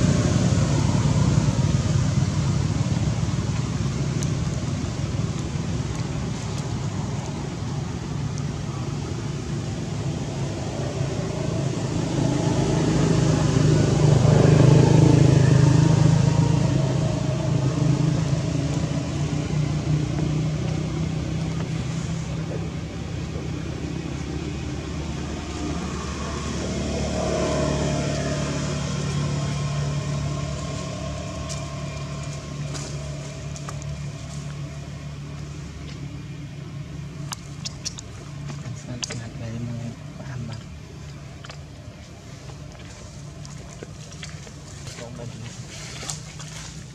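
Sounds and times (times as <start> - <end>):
passing vehicle engines: 0.0 - 46.9.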